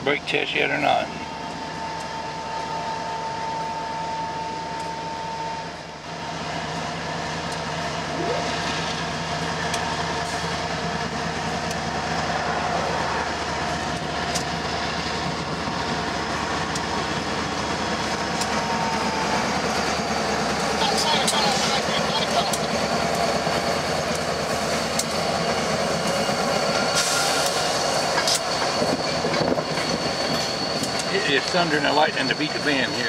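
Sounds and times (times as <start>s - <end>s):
diesel locomotive engines: 0.0s - 33.0s.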